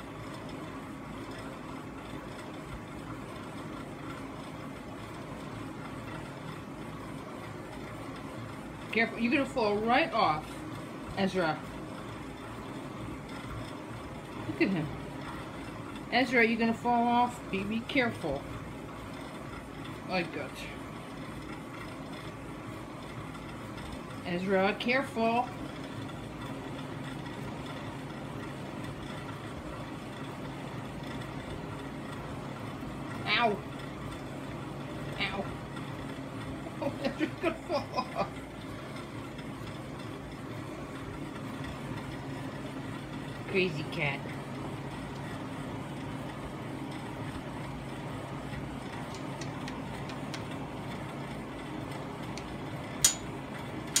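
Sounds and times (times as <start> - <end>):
low hum with flutter: 0.0 - 54.0.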